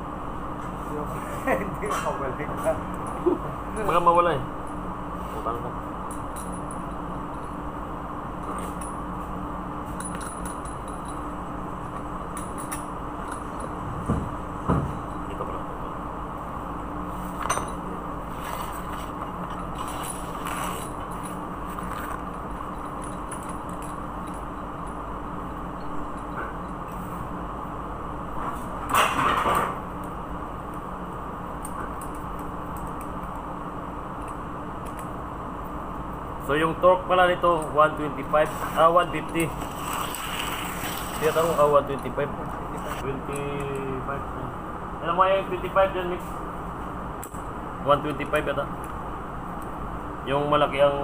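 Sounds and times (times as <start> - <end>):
machinery hum: 0.0 - 51.0.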